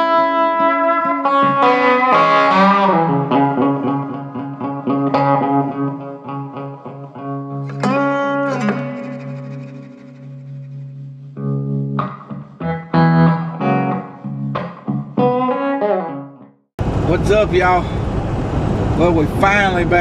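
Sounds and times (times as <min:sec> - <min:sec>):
music with sustained bending notes: 0:00.0 - 0:16.6.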